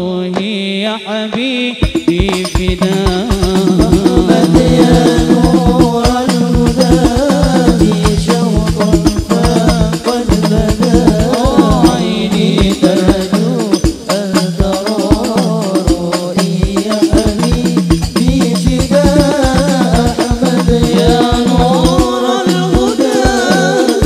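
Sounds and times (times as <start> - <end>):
men singing devotional song: 0.0 - 24.0
frame drums beating: 1.8 - 24.0.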